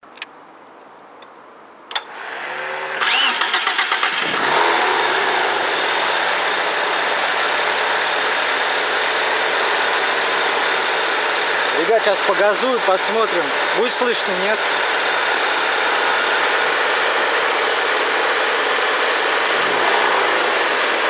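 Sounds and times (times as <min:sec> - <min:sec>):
starter motor cranking: 0:01.9 - 0:21.0
car engine idling: 0:03.1 - 0:21.0.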